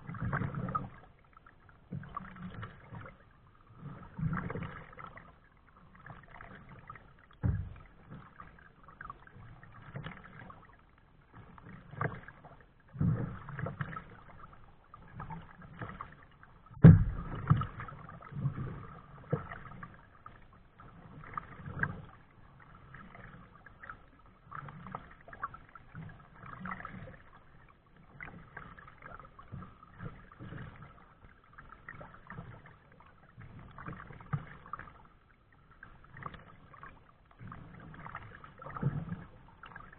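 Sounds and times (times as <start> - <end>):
paddle splashing in water: 0.0 - 39.9.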